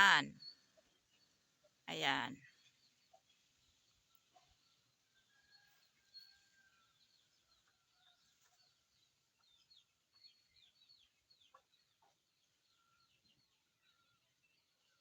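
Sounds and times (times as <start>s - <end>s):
faint birdsong chirps: 0.0s - 15.0s.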